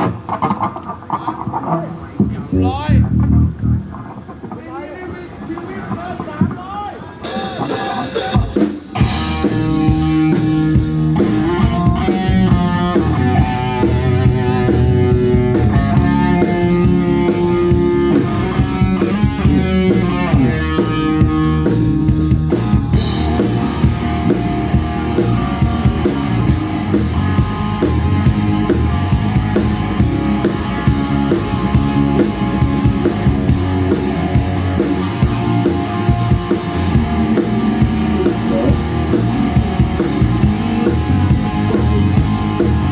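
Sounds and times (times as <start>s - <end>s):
rock band playing live: 0.0s - 4.6s, 7.1s - 42.9s.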